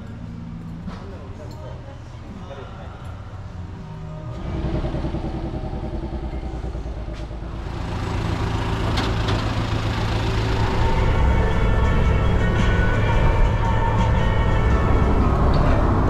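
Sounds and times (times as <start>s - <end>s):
vehicle engine humming: 3.1s - 16.0s.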